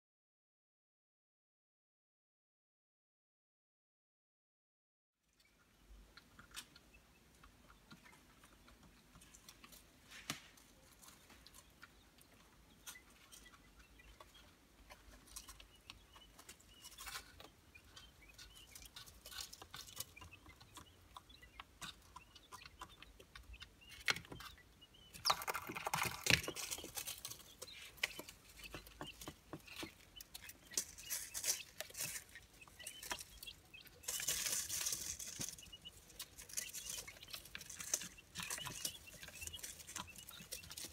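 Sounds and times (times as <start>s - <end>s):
quail chicks peeping: 5.2s - 40.9s
chicks scratching in paper bedding: 8.0s - 40.9s.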